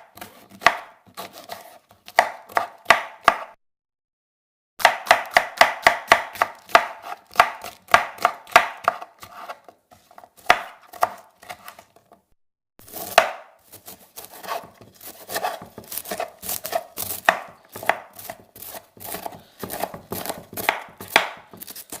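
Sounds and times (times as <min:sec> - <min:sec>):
knife chopping on board: 0:00.0 - 0:03.6, 0:04.8 - 0:11.8, 0:12.9 - 0:22.0.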